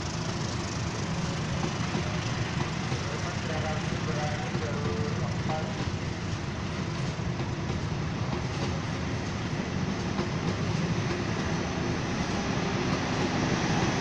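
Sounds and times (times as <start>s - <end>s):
steel wheels on rails: 0.0s - 14.0s
train passing at speed: 0.0s - 14.0s.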